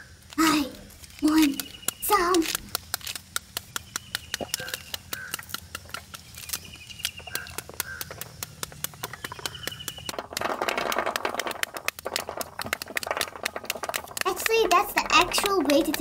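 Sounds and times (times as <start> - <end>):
pomegranates cracking by hand: 0.0 - 16.0
seeds pattering into a basin: 0.1 - 16.0.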